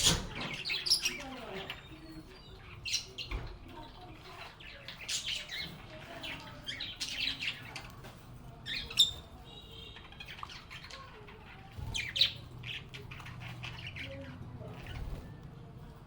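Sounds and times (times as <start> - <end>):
lovebirds chirping: 0.0 - 16.0.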